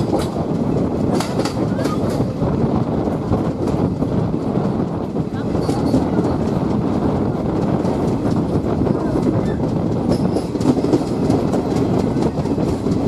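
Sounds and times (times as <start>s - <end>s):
train carriage rumbling: 0.0s - 13.0s
wheels clicking over rail joints: 0.0s - 13.0s.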